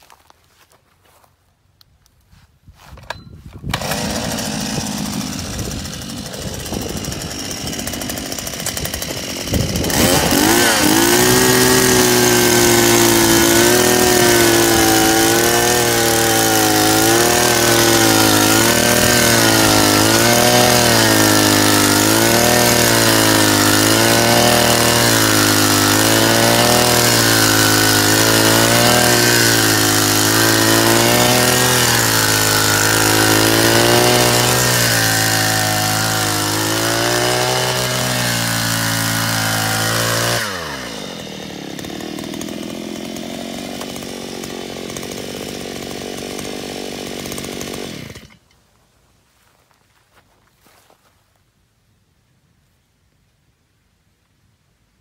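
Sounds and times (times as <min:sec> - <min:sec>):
earth auger engine drilling: 0:03.0 - 0:48.5.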